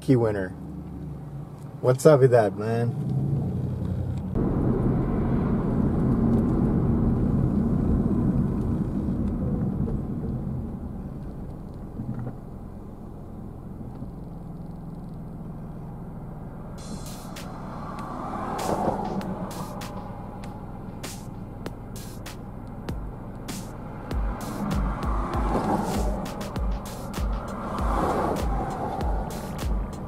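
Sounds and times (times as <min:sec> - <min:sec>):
car road rumble from inside: 0:00.1 - 0:30.0.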